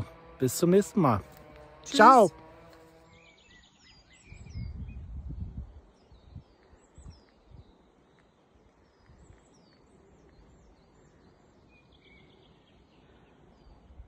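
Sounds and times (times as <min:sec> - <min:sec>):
songbird chirps: 0:00.0 - 0:14.0.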